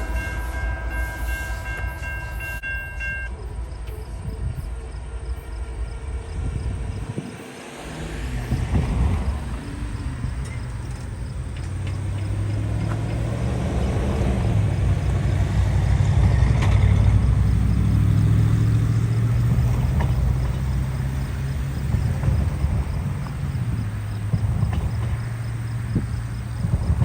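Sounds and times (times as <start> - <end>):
diesel locomotive engine drone: 0.0 - 27.0
train wheels rolling: 0.0 - 27.0.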